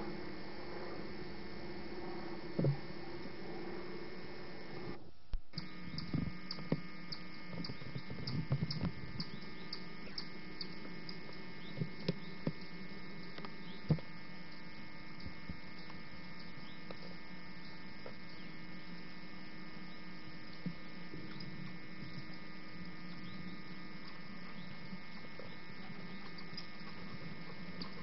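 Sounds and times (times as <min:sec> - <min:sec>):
electrical hum with faint tones: 0:00.0 - 0:28.0.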